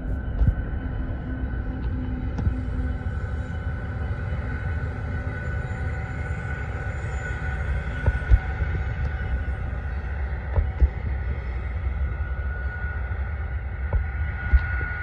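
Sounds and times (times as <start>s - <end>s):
steady whine: 0.0s - 15.0s.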